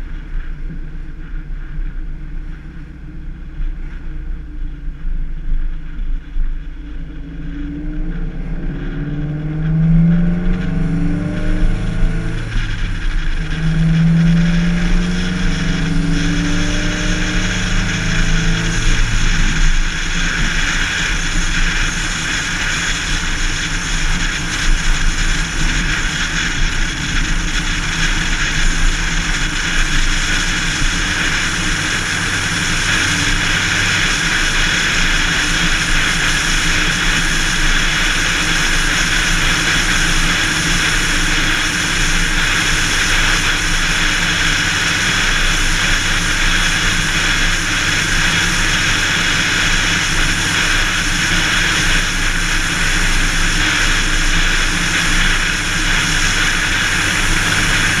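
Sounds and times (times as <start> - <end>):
wind rush: 4.6 - 58.0.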